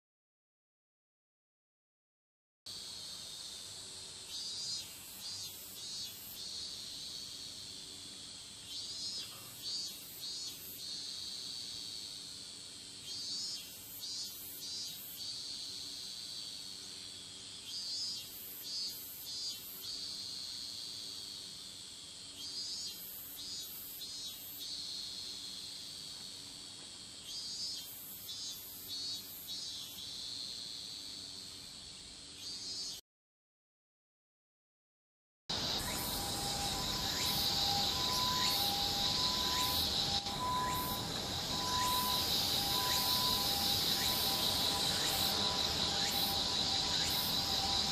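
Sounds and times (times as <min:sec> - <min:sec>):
short insect chirps: 0:02.7 - 0:33.0, 0:35.5 - 0:47.9
crickets shrilling: 0:02.8 - 0:33.0, 0:35.5 - 0:47.9.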